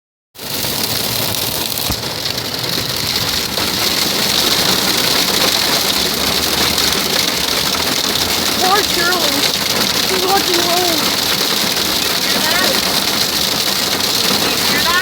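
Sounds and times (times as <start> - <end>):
heavy rain on hard surfaces: 0.4 - 15.0.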